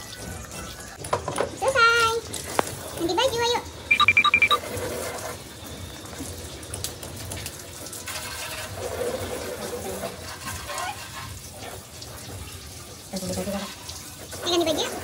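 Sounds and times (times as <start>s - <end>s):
hose water splashing: 1.8s - 15.0s.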